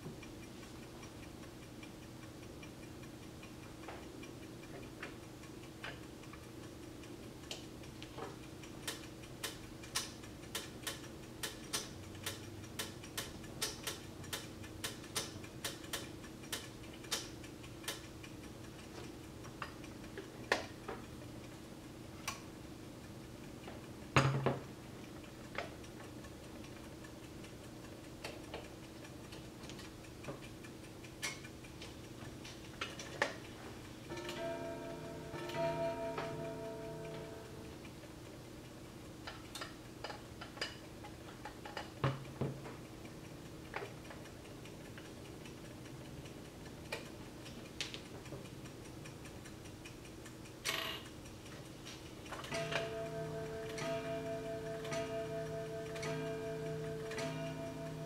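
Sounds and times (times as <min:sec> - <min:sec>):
clock mechanism clicks: 0:00.0 - 0:58.0.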